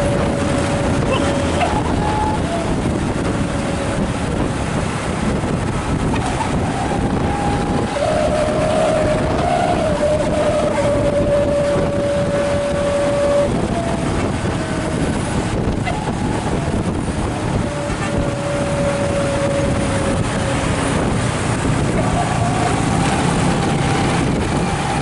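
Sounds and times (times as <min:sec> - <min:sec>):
bus engine running: 0:00.0 - 0:25.0
wavering howling exhaust whistle: 0:00.0 - 0:25.0.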